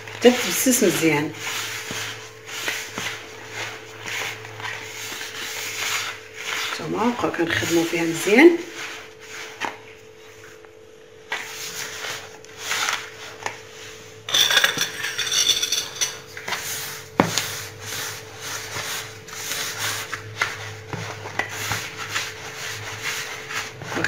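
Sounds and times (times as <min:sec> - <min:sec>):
hand rubbing semolina in a bowl: 0:01.3 - 0:09.6, 0:11.4 - 0:24.0.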